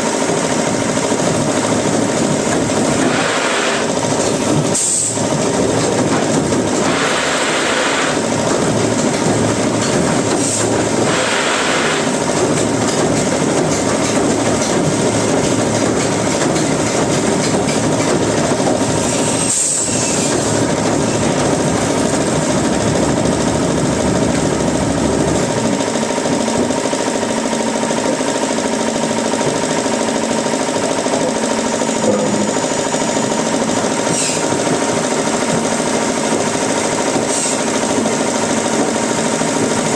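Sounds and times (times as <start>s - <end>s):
woodworking machinery running: 0.0s - 39.9s.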